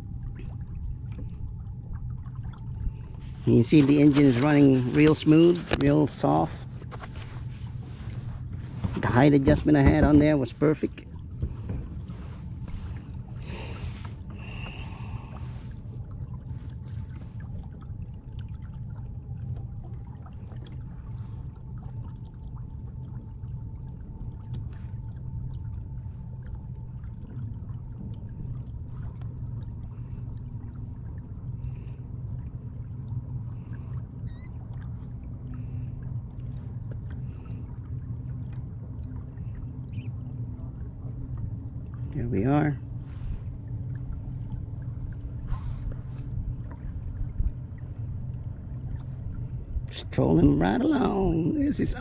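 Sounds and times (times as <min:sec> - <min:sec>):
low rumble: 0:00.0 - 0:52.0
water sloshing along kayak hull: 0:00.0 - 0:52.0.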